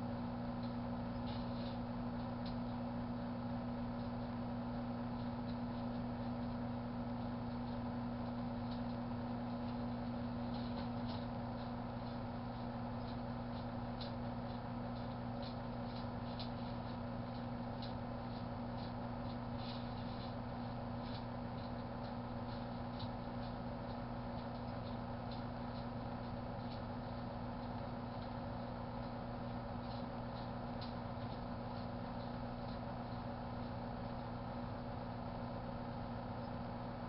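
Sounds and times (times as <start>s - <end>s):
microwave oven humming: 0.0s - 37.0s
faint irregular ticks: 5.1s - 35.2s.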